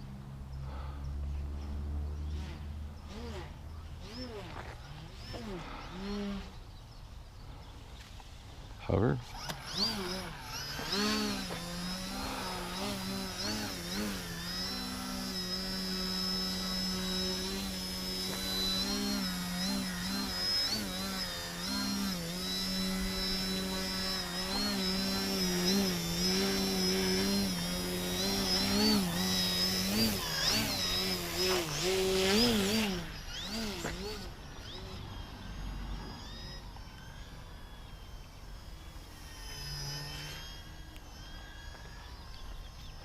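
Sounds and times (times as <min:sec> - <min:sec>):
model airplane propeller buzzing: 0:01.6 - 0:43.0.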